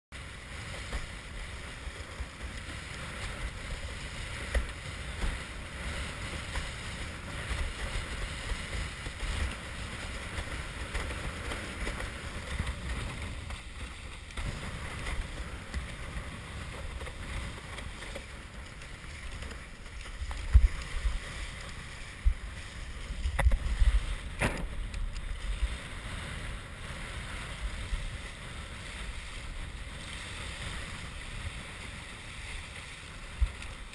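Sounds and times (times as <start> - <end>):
water rushing and splashing: 0.2 - 33.9.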